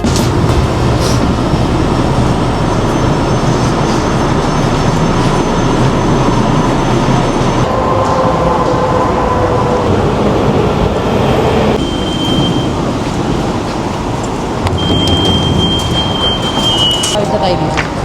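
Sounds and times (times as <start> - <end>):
steady whining tone: 0.0 - 17.4
train rail noise: 0.0 - 18.0.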